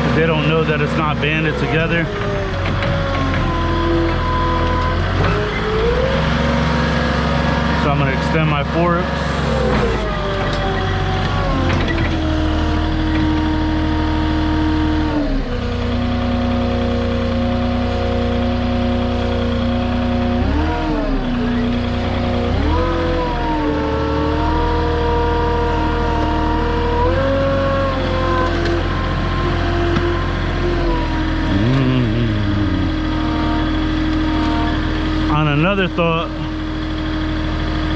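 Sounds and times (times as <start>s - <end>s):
forklift engine under hydraulic load: 0.0s - 37.9s.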